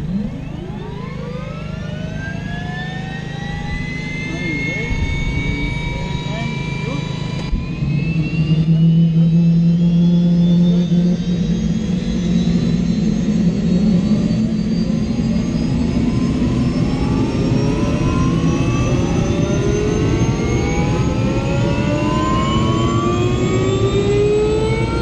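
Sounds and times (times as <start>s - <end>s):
low engine drone: 0.0s - 25.0s
turbine whine rising: 0.0s - 25.0s.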